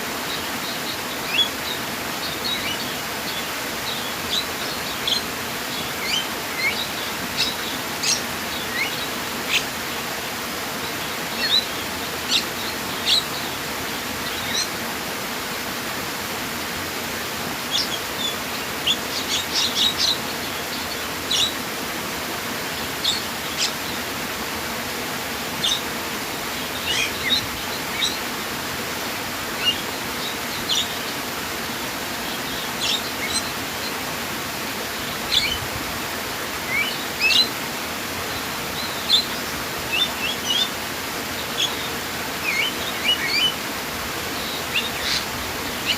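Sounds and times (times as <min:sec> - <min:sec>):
flowing water: 0:00.0 - 0:45.9
birds chirping: 0:00.1 - 0:15.1, 0:17.1 - 0:45.9.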